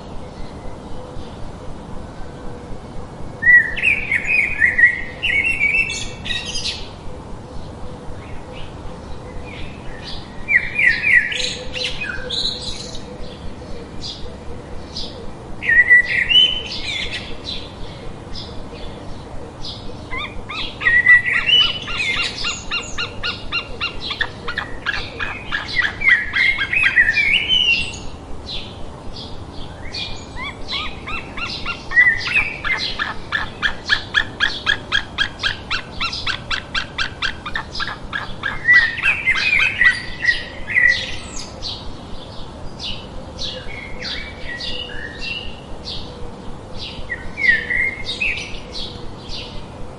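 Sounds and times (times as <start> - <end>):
birds singing and chirping: 0.0 - 49.9.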